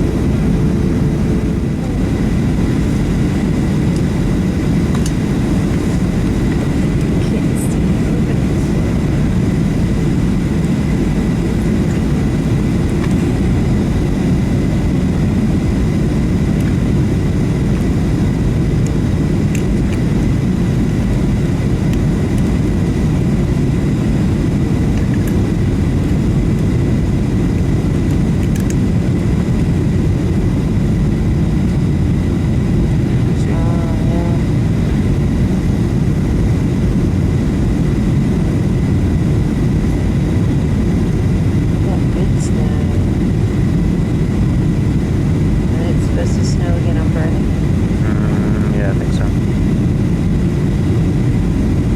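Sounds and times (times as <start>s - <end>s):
faint high whine: 0.0s - 51.9s
jet engines roaring: 0.0s - 51.9s.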